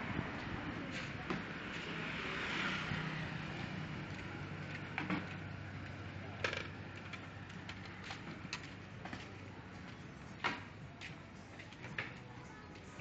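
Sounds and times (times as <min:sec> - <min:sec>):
city noise hum: 0:00.0 - 0:13.0.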